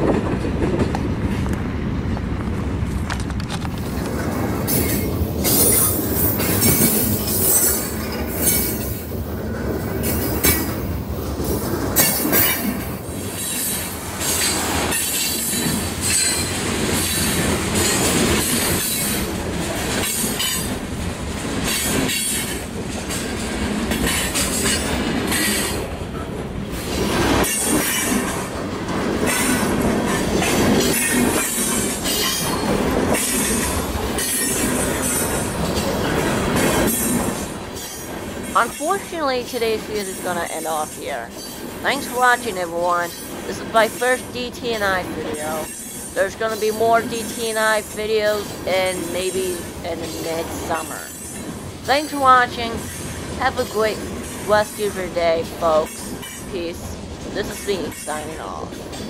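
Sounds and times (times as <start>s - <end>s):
steel wheels rumbling on rail: 0.0s - 59.0s.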